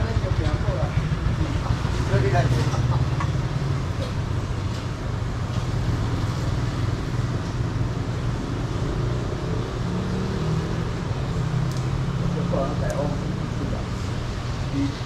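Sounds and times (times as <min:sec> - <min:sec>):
street market noise: 0:00.0 - 0:15.0.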